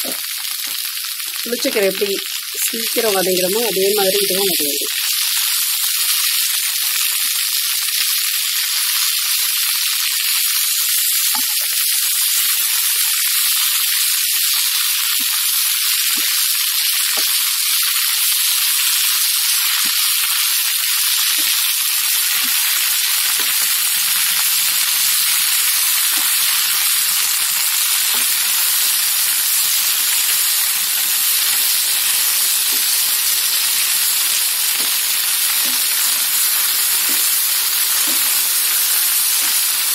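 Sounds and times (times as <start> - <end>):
greens sizzling in oil: 0.0 - 39.9.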